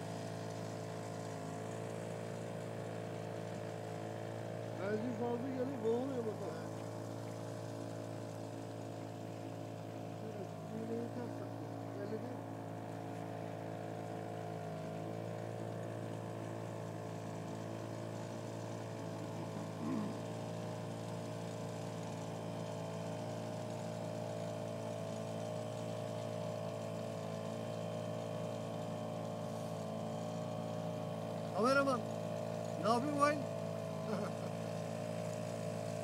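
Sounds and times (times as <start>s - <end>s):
motorboat engine humming: 0.0s - 36.0s.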